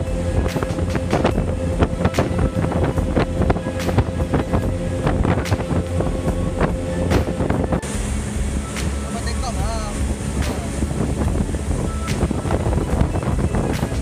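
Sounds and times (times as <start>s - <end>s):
hull slapping against waves: 0.0s - 14.0s
motorboat engine running: 0.0s - 14.0s
wind buffeting microphone: 0.0s - 14.0s.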